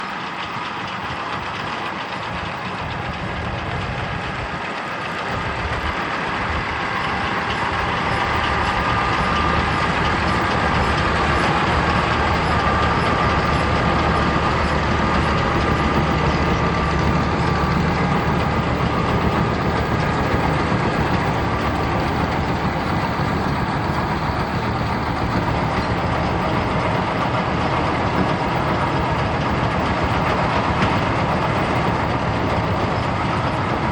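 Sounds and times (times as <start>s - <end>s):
tractor engine and baler machinery: 0.0s - 33.9s.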